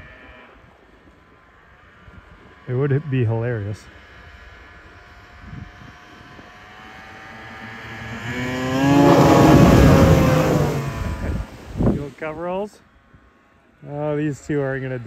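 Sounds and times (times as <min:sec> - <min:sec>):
snowmobile engine at high revs: 0:00.0 - 0:12.6.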